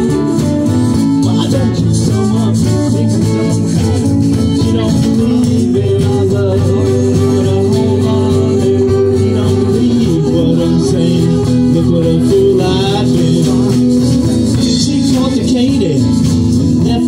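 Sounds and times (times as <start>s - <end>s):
acoustic guitars: 0.0s - 17.0s
upright bass: 0.0s - 17.0s.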